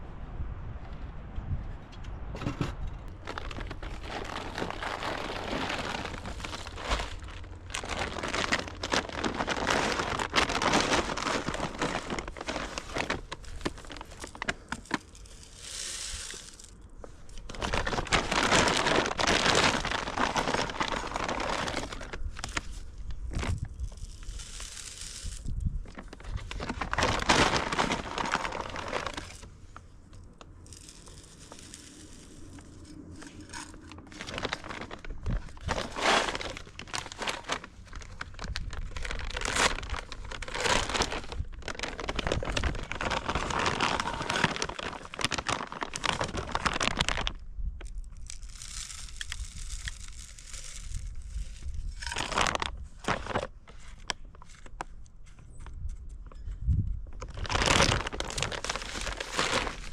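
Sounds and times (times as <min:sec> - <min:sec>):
crinkling and rustling: 0:02.4 - 0:59.9.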